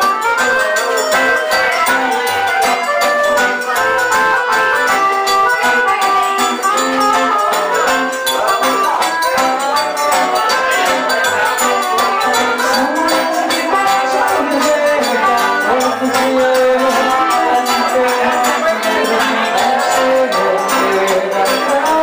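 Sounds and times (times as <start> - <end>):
accordion: 0.0 - 22.0
guitar: 0.0 - 22.0
hand percussion: 0.0 - 22.0.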